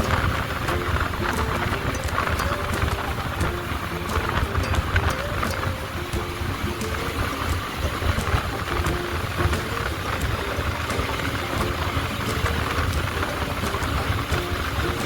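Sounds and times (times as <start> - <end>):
road and wind noise: 0.0 - 15.0
sharp ticks: 0.0 - 15.0.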